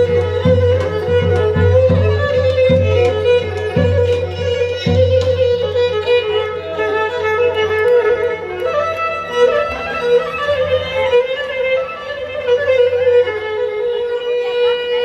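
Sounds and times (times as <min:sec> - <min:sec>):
bowed fiddle melody: 0:00.0 - 0:15.0.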